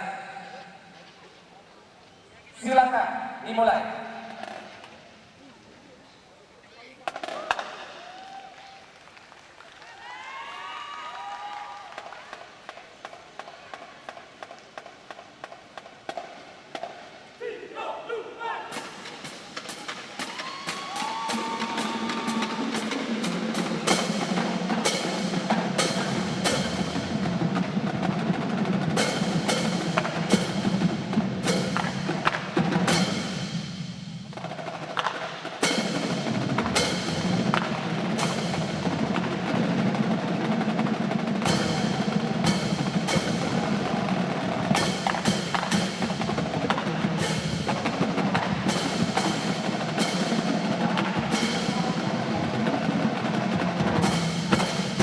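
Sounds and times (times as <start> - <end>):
marching drum line cadence: 0.0 - 5.5, 6.9 - 55.0.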